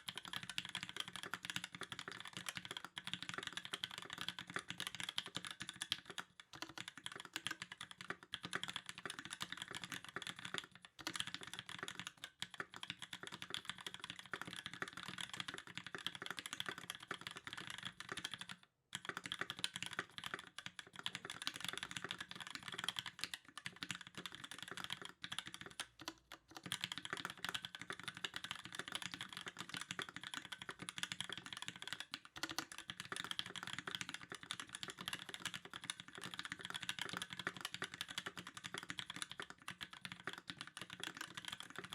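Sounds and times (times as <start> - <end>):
mechanical keyboard typing: 0.0 - 41.9.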